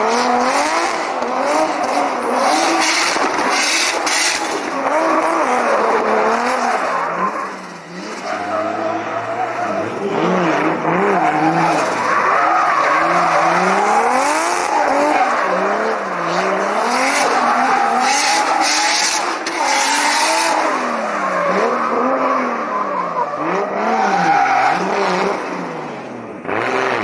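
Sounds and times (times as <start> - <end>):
car engine revving: 0.0 - 22.7
tyres squealing and skidding: 1.1 - 25.7.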